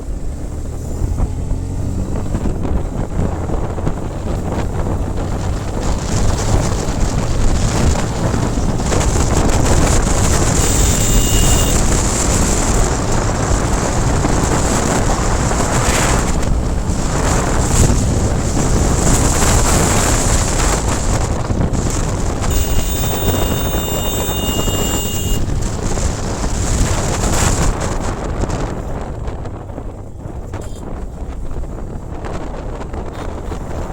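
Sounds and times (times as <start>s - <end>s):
motorcycle engine rumble: 0.0s - 33.9s
wind buffeting microphone: 0.0s - 33.9s.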